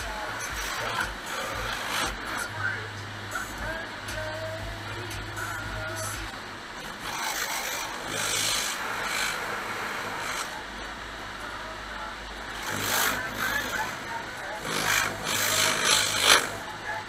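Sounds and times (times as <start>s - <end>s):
water spray: 0.0s - 11.9s, 12.5s - 16.9s.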